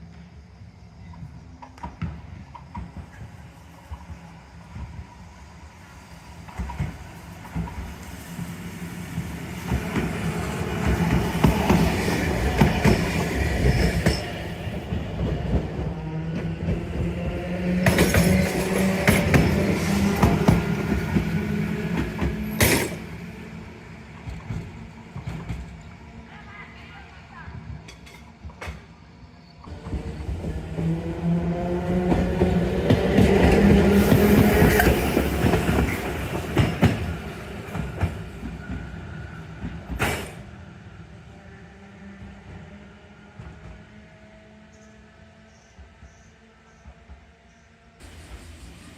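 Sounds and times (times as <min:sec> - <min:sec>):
tram passing on rails: 0:00.0 - 0:48.9.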